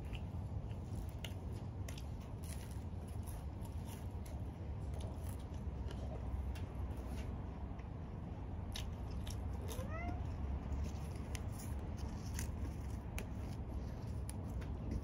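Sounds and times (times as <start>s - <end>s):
pizza crust crunching: 0.0s - 7.5s, 8.5s - 15.0s
steady low hum: 0.0s - 15.0s.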